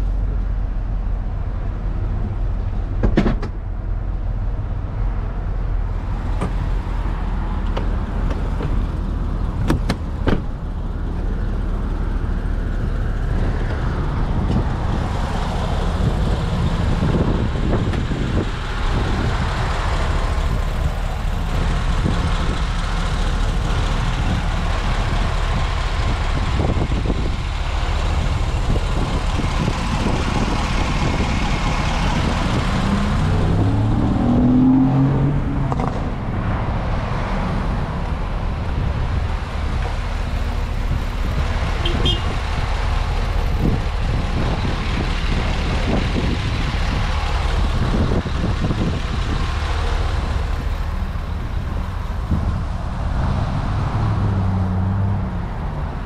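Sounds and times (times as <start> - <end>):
truck engine idling: 0.0 - 33.9, 37.6 - 53.8.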